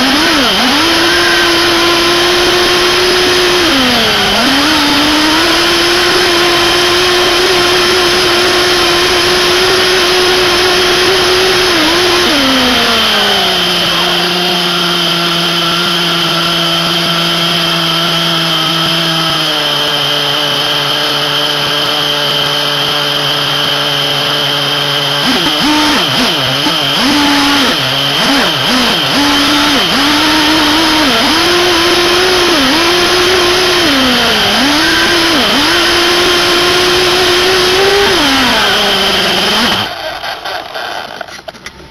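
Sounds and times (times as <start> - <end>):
small engine revving: 0.0 - 41.9.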